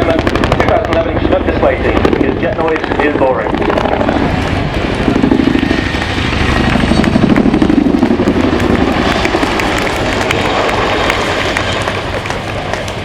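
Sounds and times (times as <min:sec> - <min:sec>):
helicopter rotor blade slap: 0:00.0 - 0:13.0.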